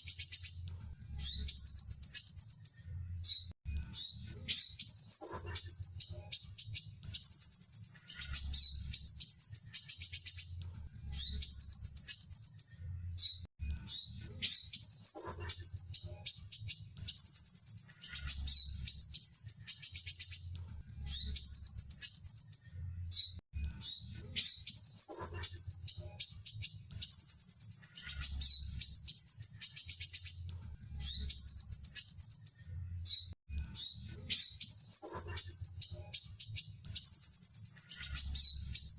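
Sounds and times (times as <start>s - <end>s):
sunbird twittering song: 0.0s - 38.9s.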